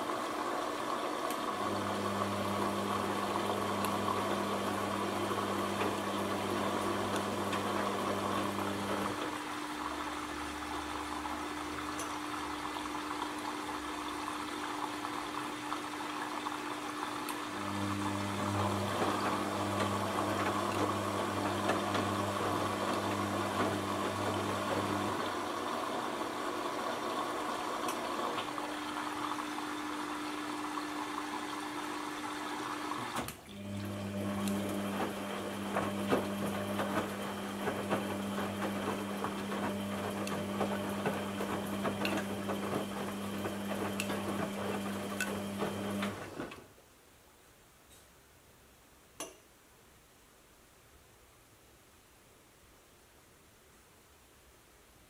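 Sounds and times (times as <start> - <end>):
washing machine running: 0.0 - 46.7
water moving through machine: 0.1 - 46.6.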